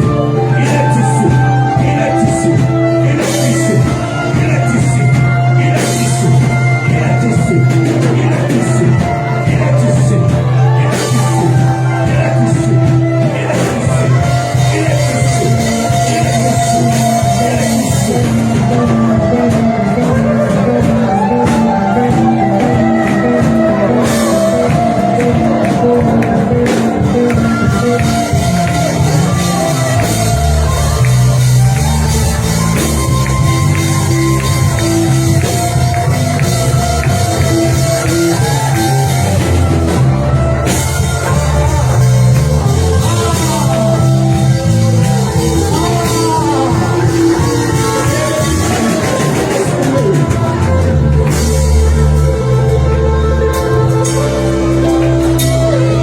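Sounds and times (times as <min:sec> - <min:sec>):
voices singing: 0:00.0 - 0:56.0
worship band playing: 0:00.0 - 0:56.0.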